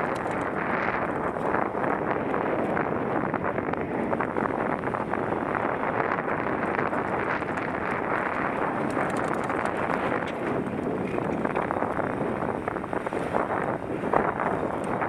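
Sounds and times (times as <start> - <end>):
bike rattling: 0.0 - 15.0
wind rush on microphone: 0.0 - 15.0.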